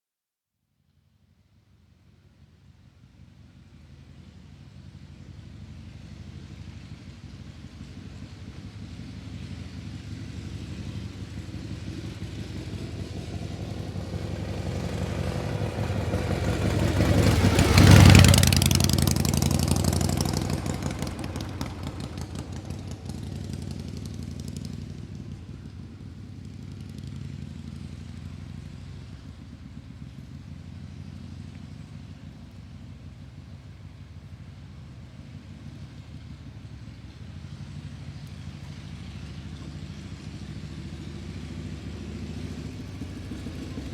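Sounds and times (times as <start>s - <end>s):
low engine hum: 1.4s - 43.9s
vehicle passing by: 3.8s - 43.9s.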